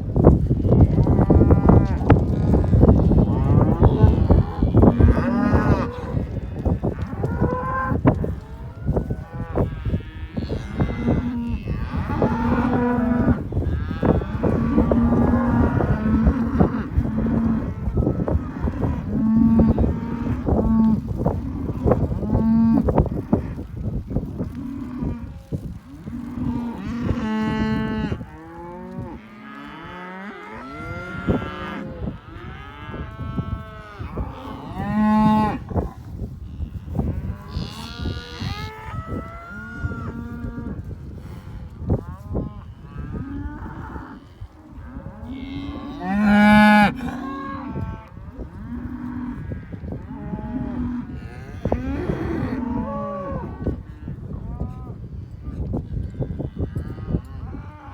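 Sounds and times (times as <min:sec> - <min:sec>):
cows mooing and bawling: 0:00.2 - 0:57.9.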